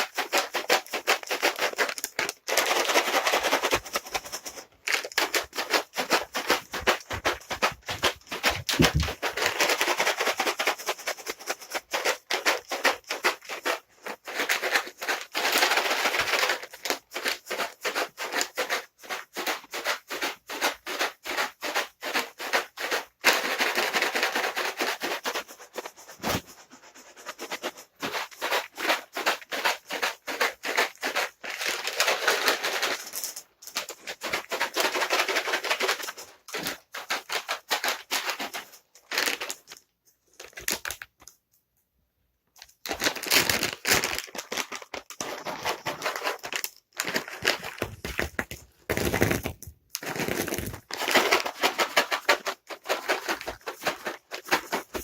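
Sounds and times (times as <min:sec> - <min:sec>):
cat treats rattling in container: 0:00.0 - 0:41.4, 0:42.6 - 0:55.0.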